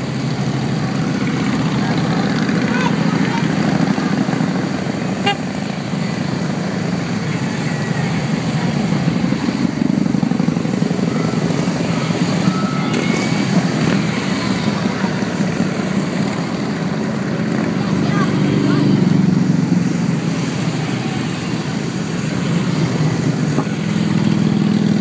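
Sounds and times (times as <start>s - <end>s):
motorcycles exhaust rumble: 0.0s - 25.0s.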